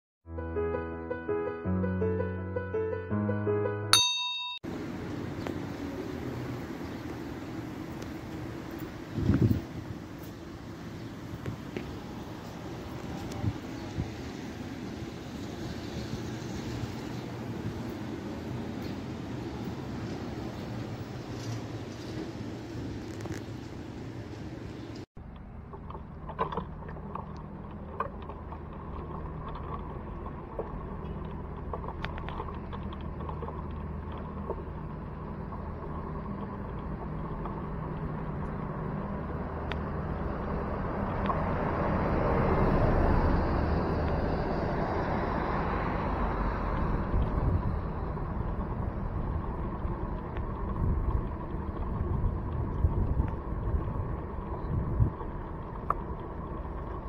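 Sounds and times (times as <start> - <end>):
vehicle passing: 4.7 - 22.4, 25.8 - 57.0
engine humming: 4.7 - 57.0.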